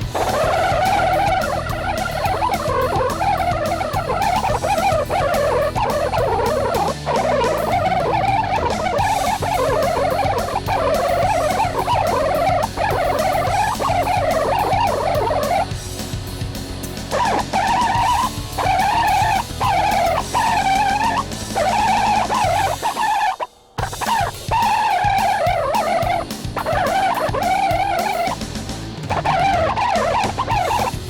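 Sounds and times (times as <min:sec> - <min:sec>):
rock music with electric guitar: 0:00.0 - 0:31.0.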